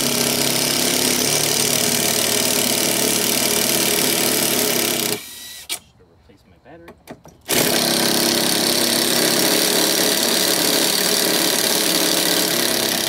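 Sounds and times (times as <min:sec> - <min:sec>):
impact driver running: 0:00.0 - 0:05.8, 0:07.5 - 0:13.0.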